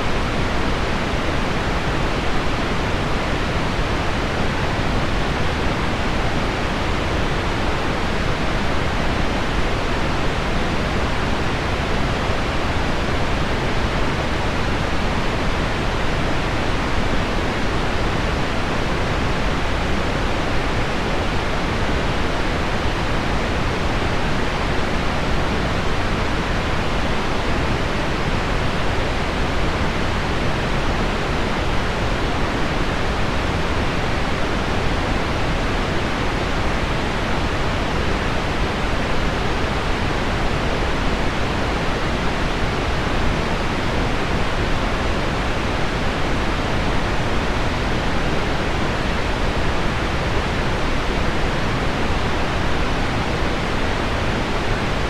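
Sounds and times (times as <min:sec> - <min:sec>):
pink noise: 0:00.0 - 0:55.0.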